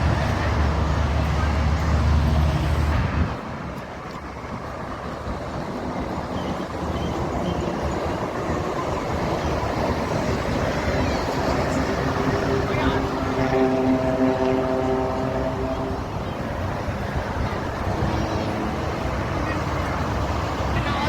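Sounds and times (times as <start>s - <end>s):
heavy engine low drone: 0.0s - 21.0s
rush of tyres and engines: 0.0s - 21.0s.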